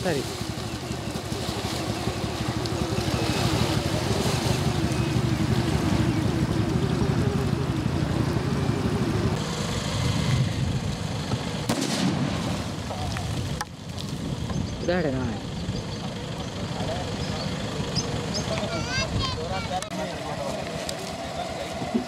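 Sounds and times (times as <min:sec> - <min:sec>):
small engine running: 0:00.0 - 0:11.7, 0:12.8 - 0:22.0.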